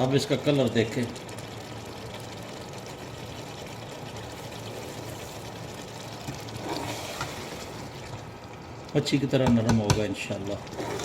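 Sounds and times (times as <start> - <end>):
curry bubbling in a pot: 0.0 - 11.0.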